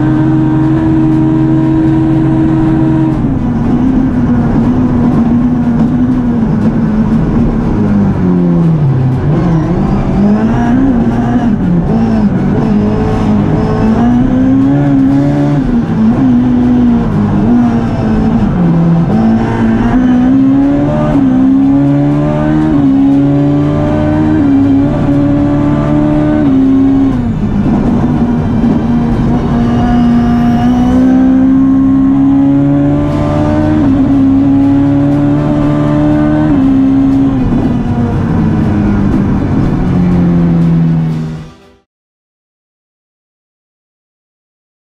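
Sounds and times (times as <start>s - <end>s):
rally car engine revving: 0.0s - 41.8s.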